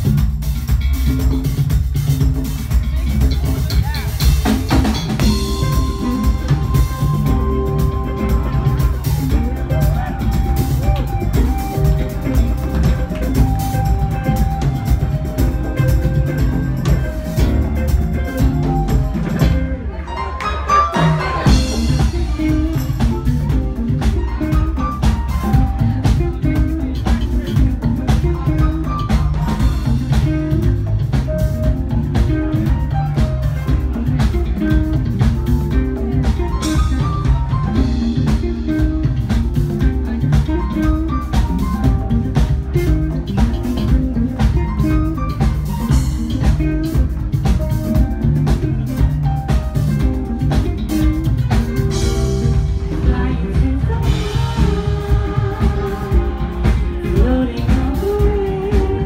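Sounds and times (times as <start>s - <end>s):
jazz-funk band playing: 0.0s - 59.0s.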